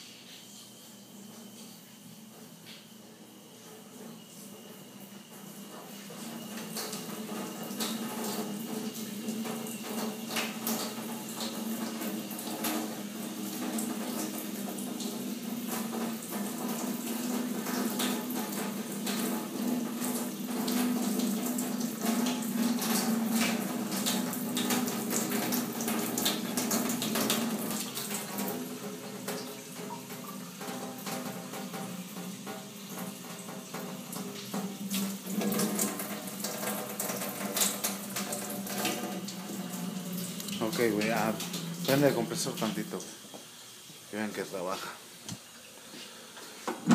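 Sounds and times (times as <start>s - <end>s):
water running into metal sink: 3.4s - 45.8s.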